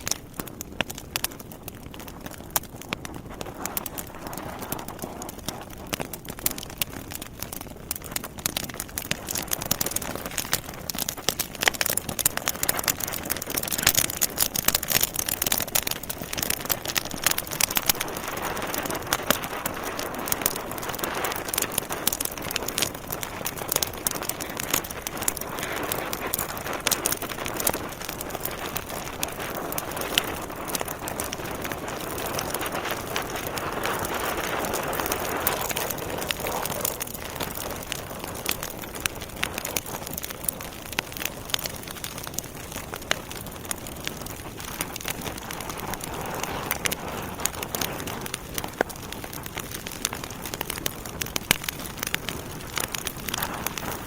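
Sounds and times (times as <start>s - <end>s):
logs crackling and popping: 0.0s - 54.0s
rush of flame: 0.0s - 54.0s.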